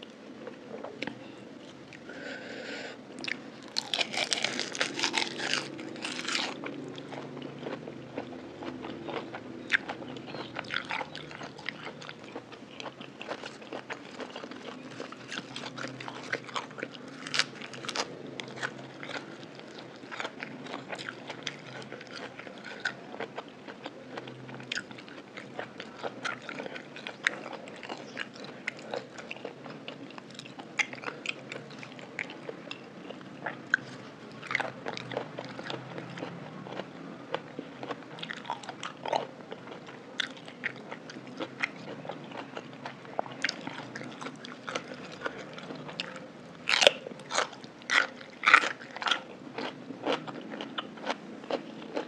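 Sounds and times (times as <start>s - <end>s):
crunching and chewing food: 0.0s - 52.0s.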